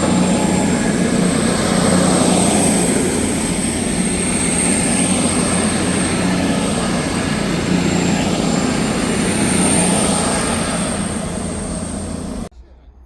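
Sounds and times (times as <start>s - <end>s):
high-pitched whine: 0.0s - 12.8s
train engine drone and rumble: 0.0s - 13.0s.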